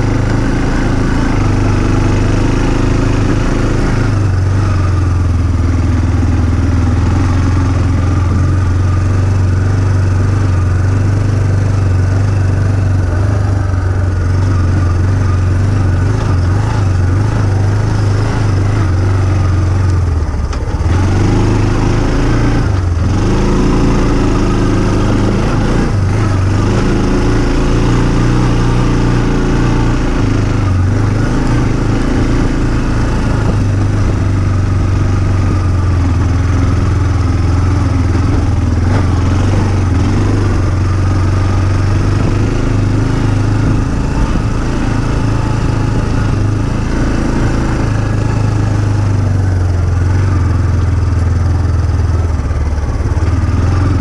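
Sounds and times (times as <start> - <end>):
small off-road engine running: 0.0 - 54.0.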